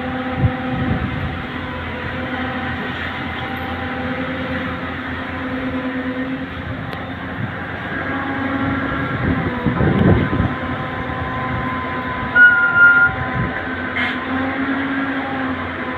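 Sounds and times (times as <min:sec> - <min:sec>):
heavy diesel engine droning: 0:00.0 - 0:15.9.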